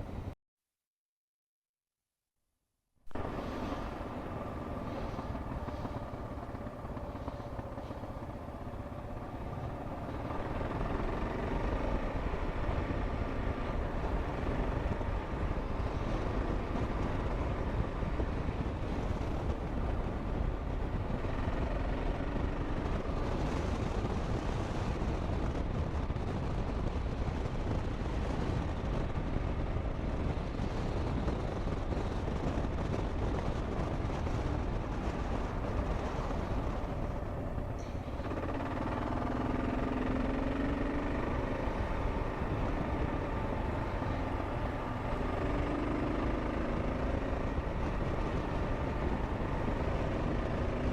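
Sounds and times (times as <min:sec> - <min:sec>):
road noise: 0:00.0 - 0:00.4, 0:03.1 - 0:50.9
motorcycle engine running: 0:03.1 - 0:50.9
wind noise: 0:03.1 - 0:50.9.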